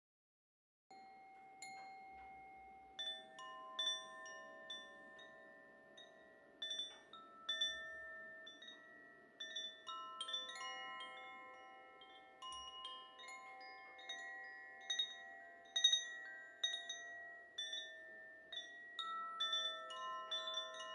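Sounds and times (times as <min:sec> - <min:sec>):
wind chime tinkling: 0:00.9 - 0:20.9.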